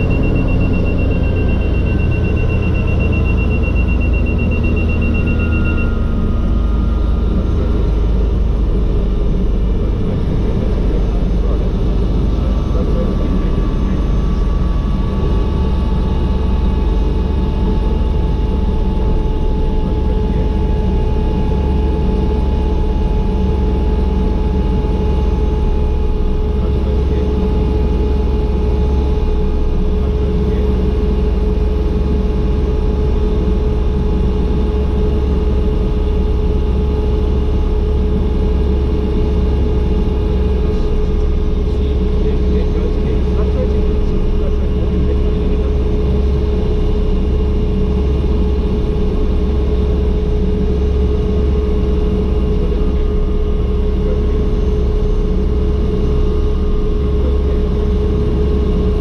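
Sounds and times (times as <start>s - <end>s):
helicopter engine and rotors running: 0.0s - 59.0s.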